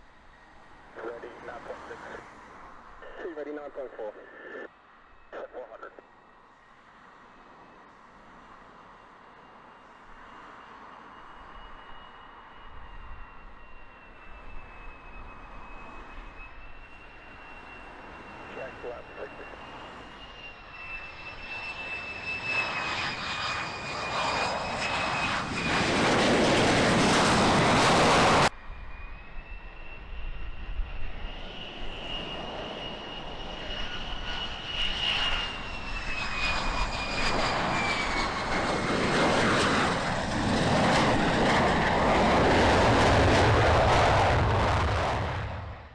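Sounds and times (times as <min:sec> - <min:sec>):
jet engine whine: 0:00.0 - 0:45.9
jet roar: 0:00.0 - 0:45.9.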